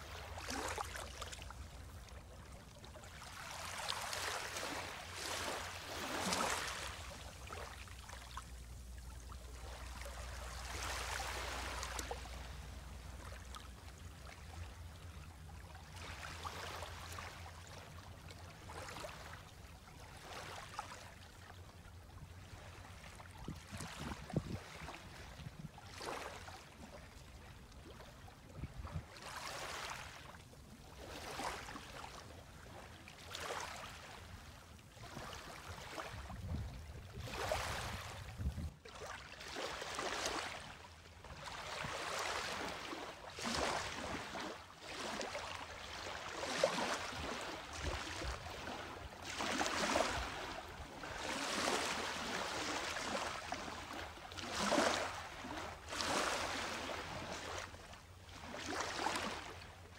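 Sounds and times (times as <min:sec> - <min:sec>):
small waves lapping on pebbles: 0:00.0 - 0:21.4, 0:22.4 - 0:59.9.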